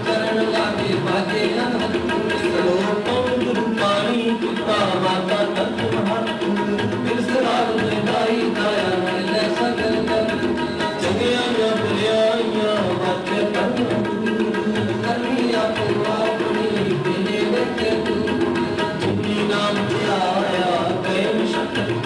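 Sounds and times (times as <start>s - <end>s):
harmonium melody: 0.0s - 22.0s
tabla drums: 0.0s - 22.0s.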